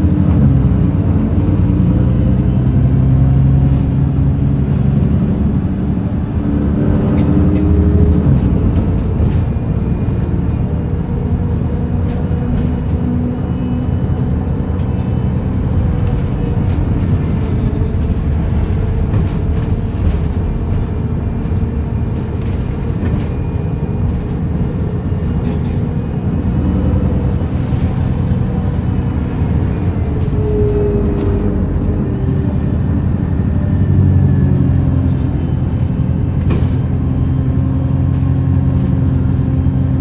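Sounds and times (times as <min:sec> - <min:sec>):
bus engine grumbling: 0:00.0 - 0:40.0.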